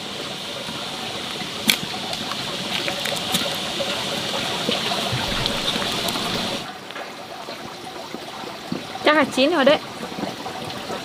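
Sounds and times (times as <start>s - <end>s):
water bubbling at a boil: 0.0s - 11.0s.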